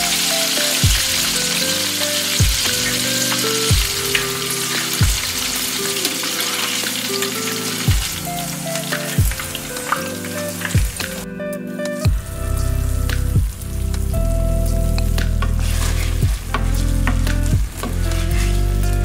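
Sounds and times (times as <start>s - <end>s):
oil sizzling while deep-frying: 0.0s - 11.2s, 12.7s - 19.0s
soft background music: 0.0s - 19.0s.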